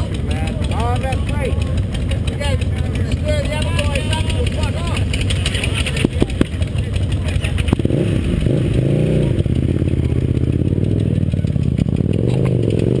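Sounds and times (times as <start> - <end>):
motorcycle engine revving: 0.0 - 13.0
motorcycle engines idling: 0.0 - 13.0.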